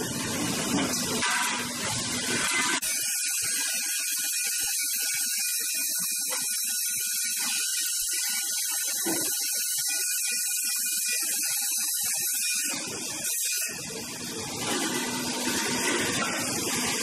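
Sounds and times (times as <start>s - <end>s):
factory machine noise: 0.0s - 17.0s.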